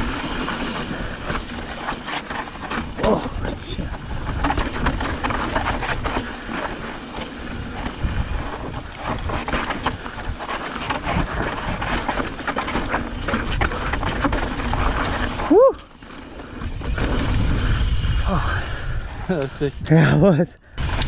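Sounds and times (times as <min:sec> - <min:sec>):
bike rattling: 0:00.0 - 0:18.0.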